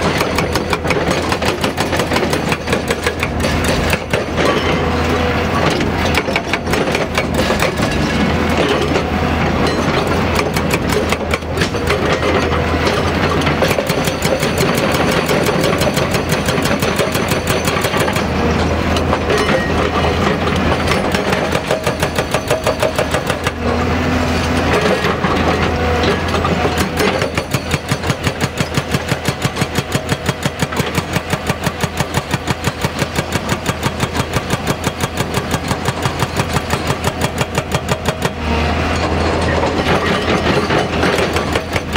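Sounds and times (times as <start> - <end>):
excavator diesel engine hum: 0.0 - 41.9
hydraulic rock breaker hammering: 0.0 - 41.9.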